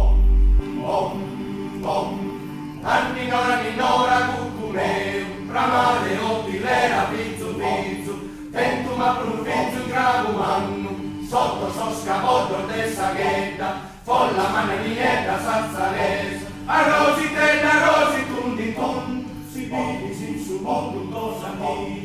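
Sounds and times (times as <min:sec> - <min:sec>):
male choir singing a cappella: 0:00.0 - 0:22.0.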